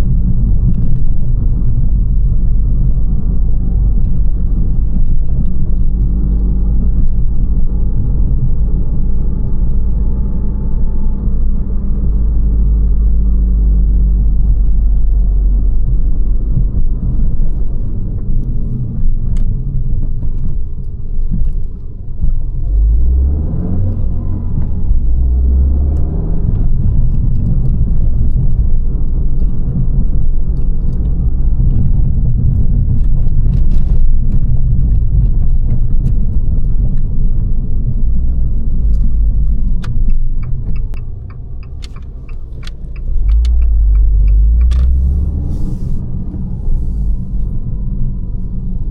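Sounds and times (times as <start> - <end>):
car engine low drone: 0.0 - 48.9.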